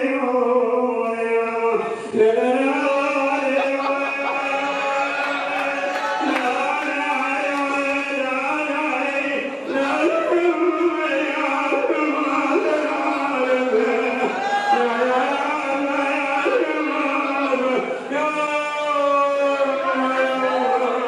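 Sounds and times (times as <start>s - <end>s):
man chanting: 0.0s - 21.0s.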